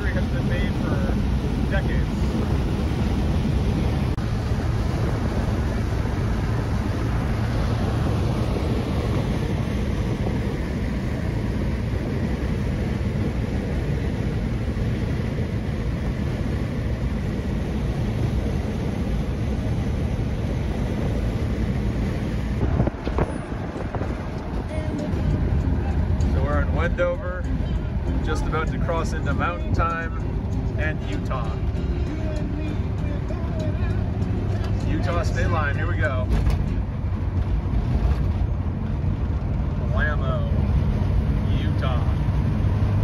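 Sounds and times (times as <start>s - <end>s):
car driving at highway speed: 0.0s - 43.0s
wind rushing over microphone: 0.0s - 43.0s.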